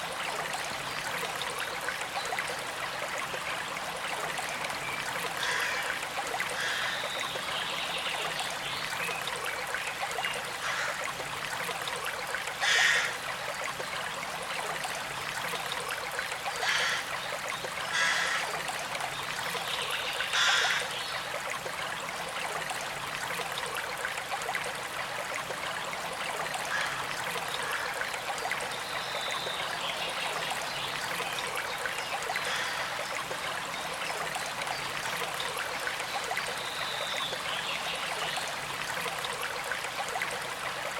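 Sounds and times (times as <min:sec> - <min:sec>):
stream trickling and gurgling: 0:00.0 - 0:40.9.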